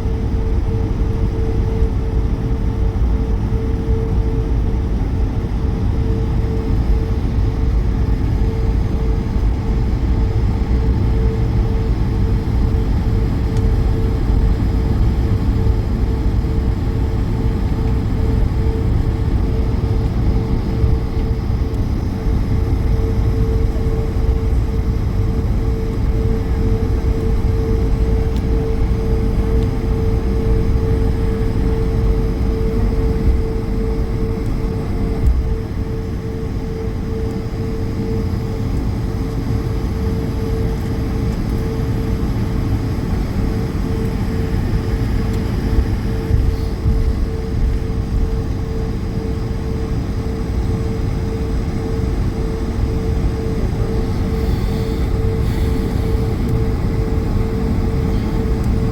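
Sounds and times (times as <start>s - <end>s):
jet engines heard in cabin: 0.0s - 58.9s.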